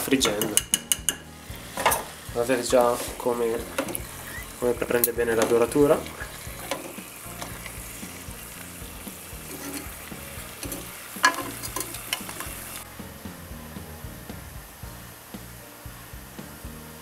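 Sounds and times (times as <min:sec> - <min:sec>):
deep-frying sizzle in hot oil: 0:00.0 - 0:17.0.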